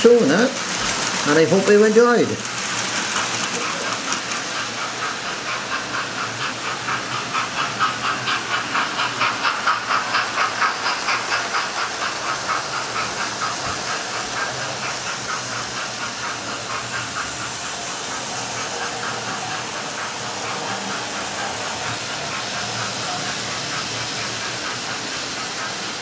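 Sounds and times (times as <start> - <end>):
model steam locomotive chuffing: 0.0 - 26.0
steady hiss: 0.0 - 26.0.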